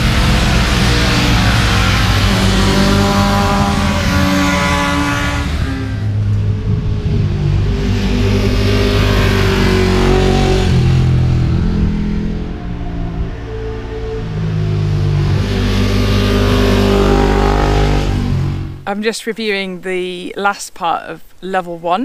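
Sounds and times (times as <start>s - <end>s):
motorbikes passing at speed: 0.0s - 18.8s.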